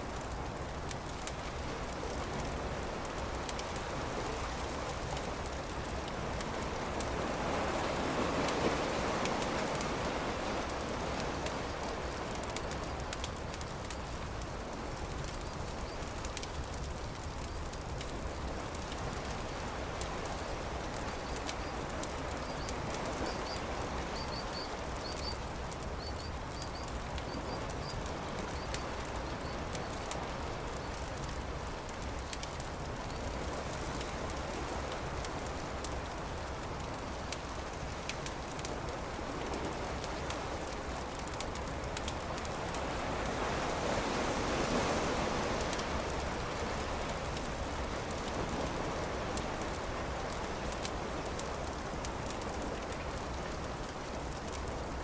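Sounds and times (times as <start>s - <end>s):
campfire crackling and popping: 0.0s - 44.0s, 44.7s - 55.0s
surf washing: 0.0s - 55.0s.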